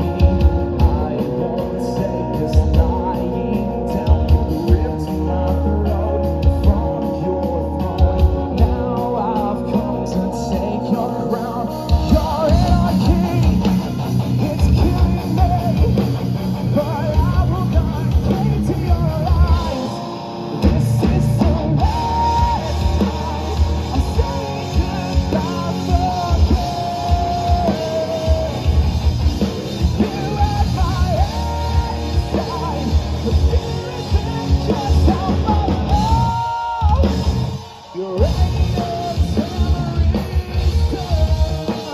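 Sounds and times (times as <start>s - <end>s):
distorted electric guitars: 0.0s - 41.9s
drum kit: 0.0s - 41.9s
person singing lead vocal: 0.0s - 41.9s.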